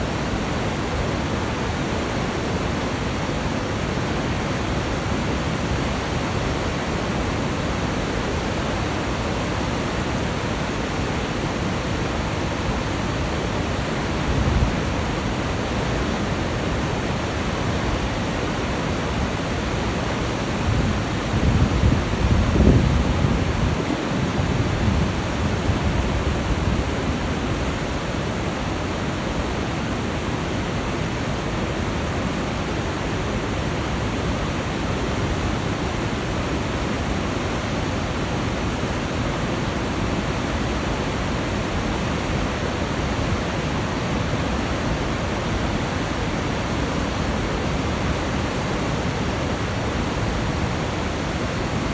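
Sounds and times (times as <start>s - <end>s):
river rushing through gorge: 0.0s - 51.9s.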